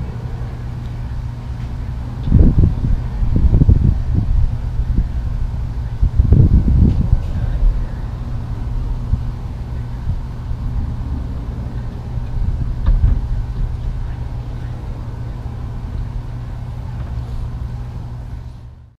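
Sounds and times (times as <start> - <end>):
low outdoor background rumble: 0.0 - 18.9.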